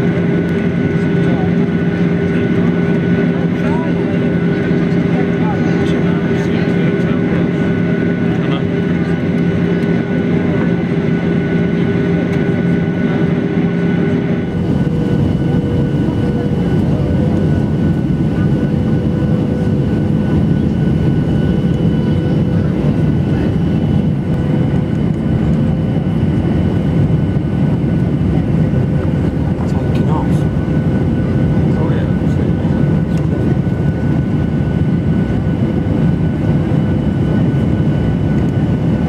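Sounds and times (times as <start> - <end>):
jet engines humming: 0.0 - 39.0.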